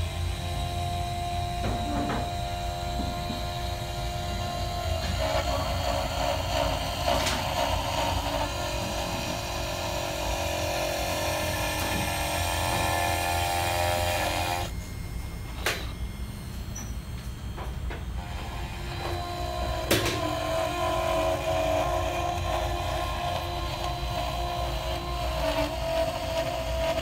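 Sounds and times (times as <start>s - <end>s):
cnc router milling wood: 0.0s - 27.0s.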